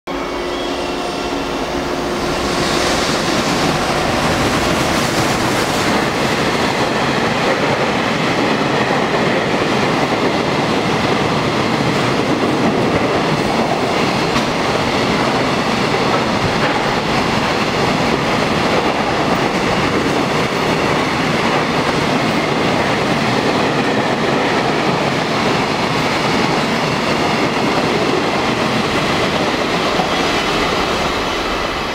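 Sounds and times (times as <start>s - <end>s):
freight train wheels on rail: 0.1s - 31.9s.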